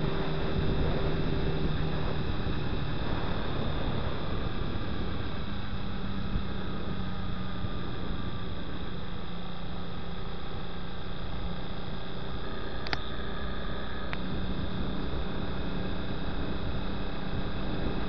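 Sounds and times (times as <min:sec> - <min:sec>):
motorcycle engine humming: 0:00.0 - 0:18.0
wind and road noise: 0:00.0 - 0:18.0.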